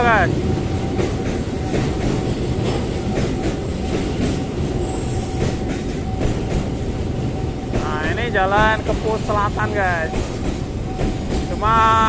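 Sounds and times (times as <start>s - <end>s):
train wagons rumbling: 0.0s - 12.0s
wheels clacking over rail joints: 0.0s - 12.0s.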